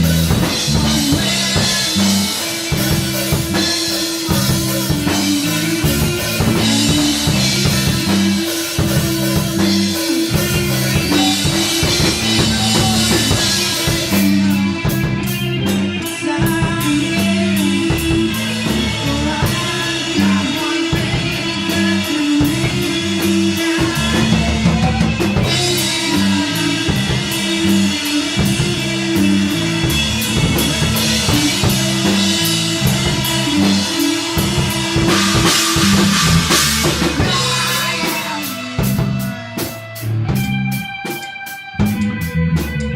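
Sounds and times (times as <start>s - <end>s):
rock music with drums and guitar: 0.0s - 42.9s.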